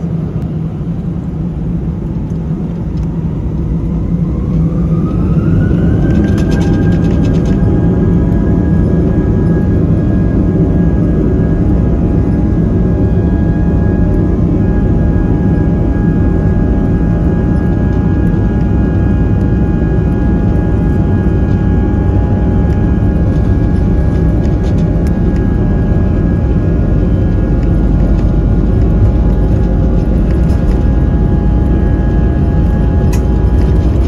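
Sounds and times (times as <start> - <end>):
high engine fan whine: 0.0 - 34.0
jet engine roar: 0.0 - 34.0.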